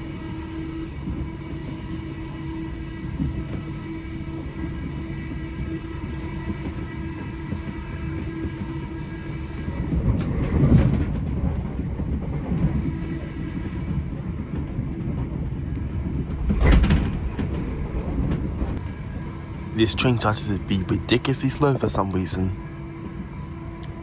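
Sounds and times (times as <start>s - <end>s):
train rattling: 0.0s - 24.0s
train wheels rumbling on rails: 0.0s - 24.0s.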